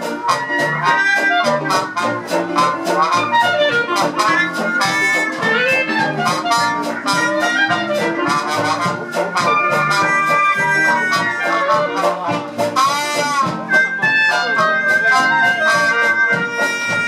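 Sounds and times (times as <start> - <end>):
jazz band playing: 0.0 - 17.0.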